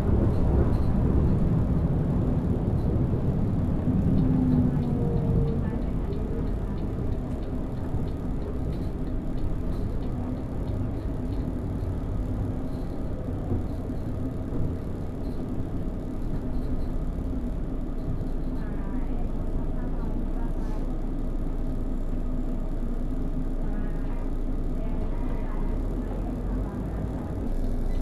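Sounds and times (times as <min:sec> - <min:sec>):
bus diesel engine running: 0:00.0 - 0:28.0
road rumble: 0:00.0 - 0:28.0.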